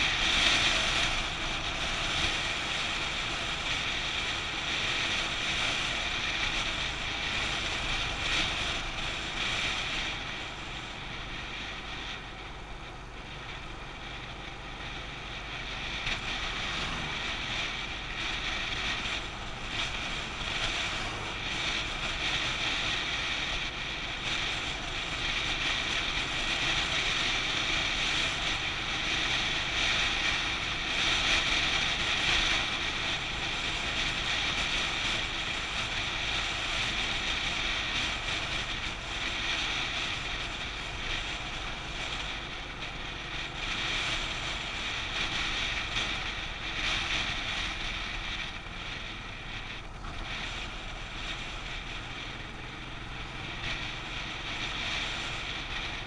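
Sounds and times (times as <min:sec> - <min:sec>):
motorcycle engine and tyres rumble: 0:00.0 - 0:56.0.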